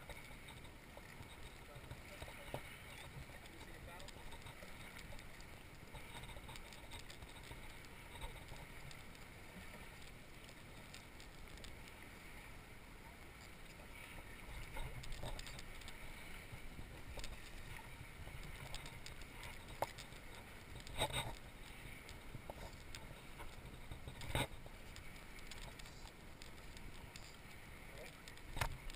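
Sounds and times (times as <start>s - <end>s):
small waves lapping: 0.0s - 28.9s.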